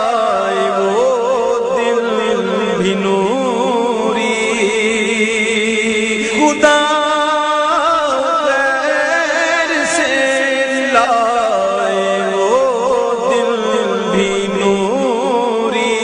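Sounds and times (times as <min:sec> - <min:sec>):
person singing devotional song: 0:00.0 - 0:16.0.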